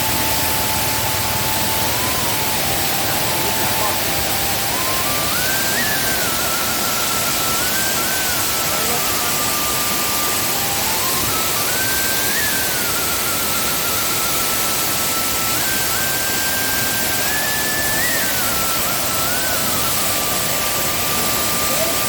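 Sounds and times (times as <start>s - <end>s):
slow background melody: 0.0s - 22.0s
waterfall rushing: 0.0s - 22.0s.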